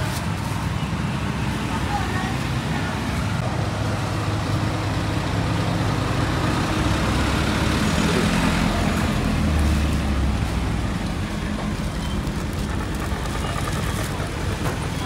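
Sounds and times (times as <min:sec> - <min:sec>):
road traffic noise: 0:00.0 - 0:15.0
vehicle engine droning close by: 0:00.0 - 0:15.0.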